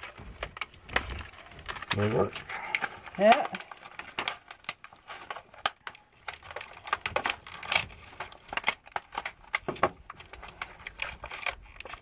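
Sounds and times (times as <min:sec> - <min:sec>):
scissors cutting plastic packaging: 0:00.0 - 0:12.0.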